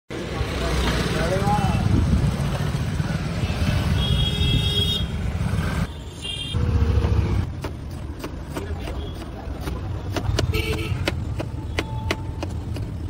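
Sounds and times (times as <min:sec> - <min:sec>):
road traffic rumble: 0:00.1 - 0:13.0.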